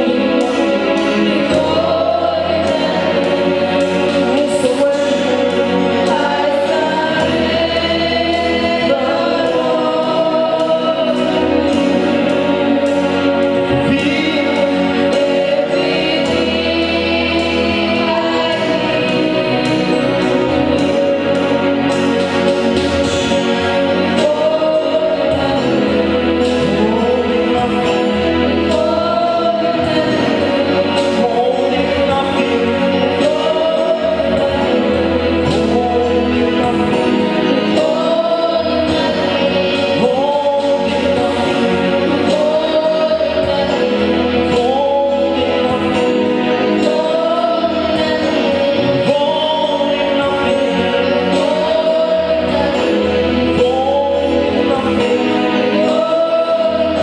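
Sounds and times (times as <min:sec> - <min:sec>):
group singing gospel song: 0:00.0 - 0:57.0
instrumental accompaniment with beat: 0:00.0 - 0:57.0.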